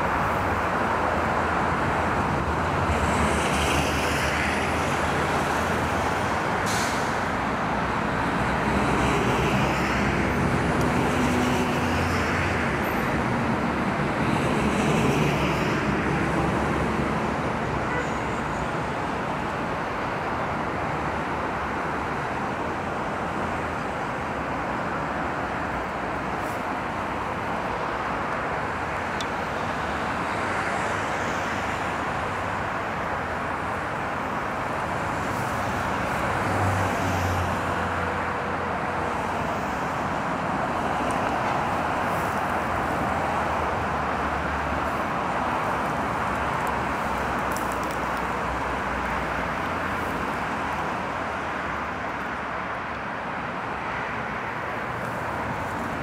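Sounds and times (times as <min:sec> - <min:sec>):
highway traffic noise: 0:00.0 - 0:56.0.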